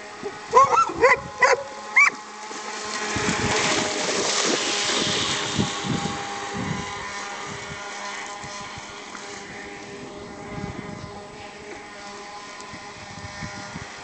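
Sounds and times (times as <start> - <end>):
boat motor whine: 0.0 - 14.0.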